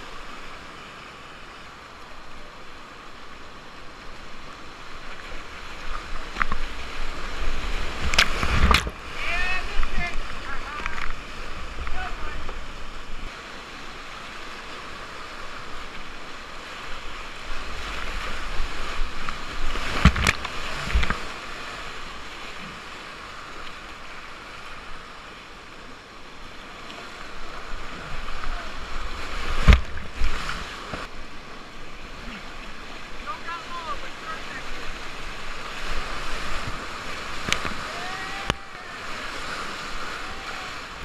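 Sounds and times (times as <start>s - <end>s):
whitewater rushing: 0.0s - 41.0s.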